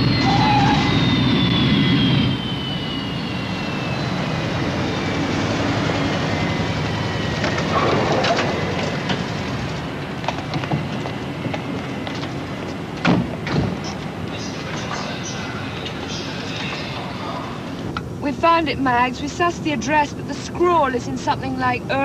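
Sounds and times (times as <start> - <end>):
high engine whine: 0.0 - 22.0
jet airliner passing overhead: 0.0 - 22.0.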